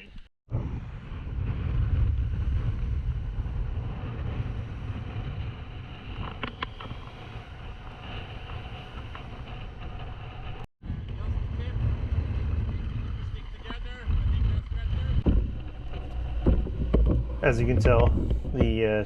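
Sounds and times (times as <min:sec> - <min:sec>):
wind buffeting microphone: 0:00.0 - 0:19.0
rough water: 0:01.1 - 0:19.0.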